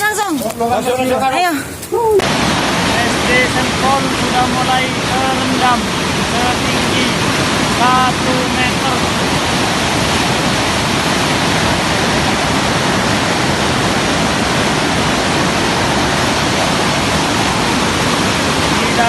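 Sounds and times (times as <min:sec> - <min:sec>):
flash-flood water rushing: 0:01.4 - 0:19.0.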